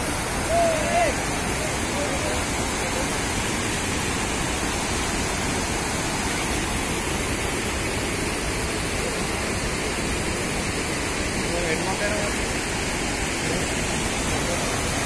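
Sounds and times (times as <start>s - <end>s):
water rushing over spillway: 0.0s - 15.0s.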